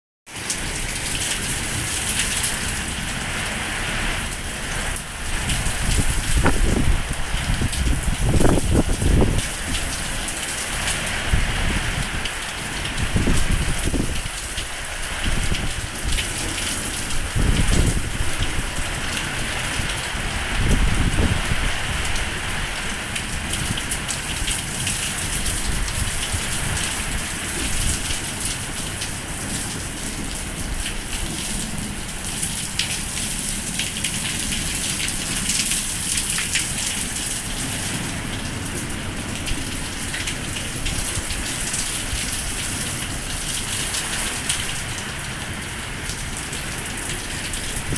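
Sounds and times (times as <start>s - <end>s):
heavy rain pouring: 0.3s - 47.9s.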